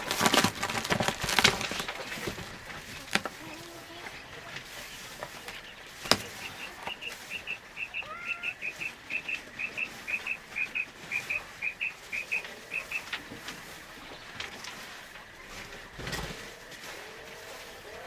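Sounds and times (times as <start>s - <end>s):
bird chirping: 1.0s - 18.0s.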